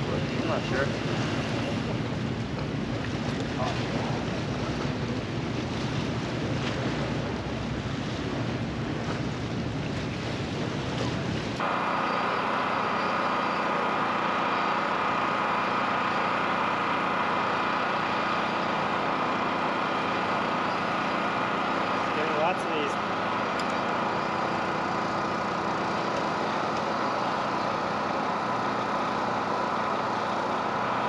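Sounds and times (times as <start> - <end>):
mechanical hum with whine: 0.0 - 31.0.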